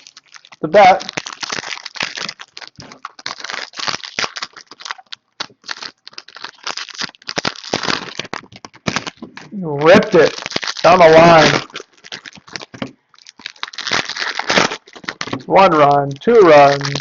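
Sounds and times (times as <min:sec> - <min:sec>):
cards and packaging crinkling: 0:00.0 - 0:17.0.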